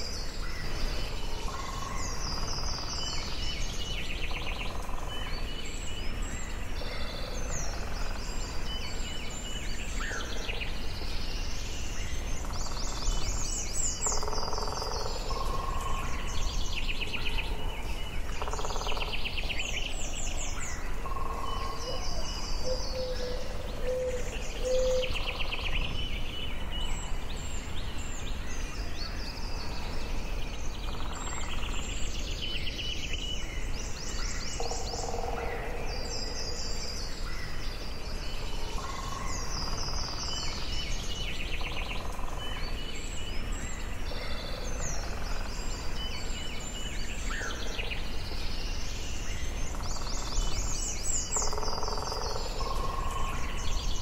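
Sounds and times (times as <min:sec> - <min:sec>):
birds singing and calling: 0:00.0 - 0:54.0
low background hiss: 0:00.0 - 0:54.0.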